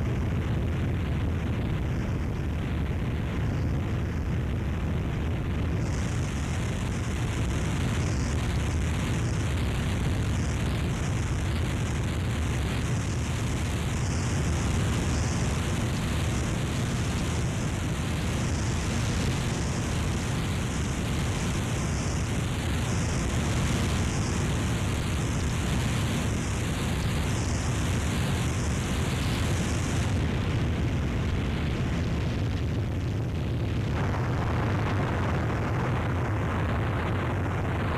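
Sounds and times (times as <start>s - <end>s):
harsh distorted static noise: 0.0s - 37.9s.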